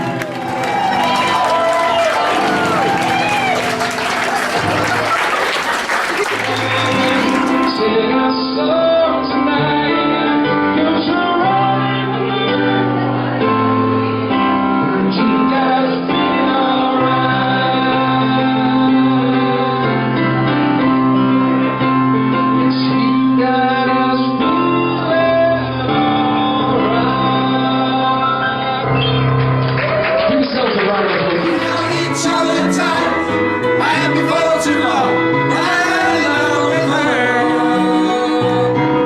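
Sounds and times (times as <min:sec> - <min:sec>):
keyboard chords under a melody: 0:00.0 - 0:30.2, 0:31.4 - 0:39.0.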